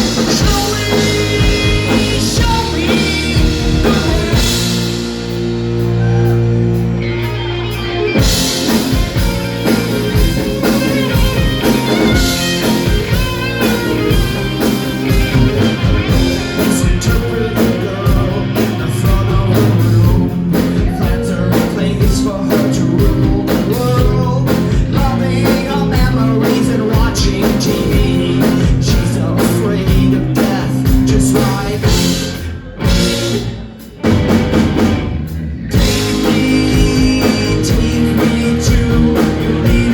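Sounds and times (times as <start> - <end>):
person singing: 0.0 - 5.0, 9.1 - 33.4, 35.6 - 39.9
rock band playing live: 0.0 - 39.9.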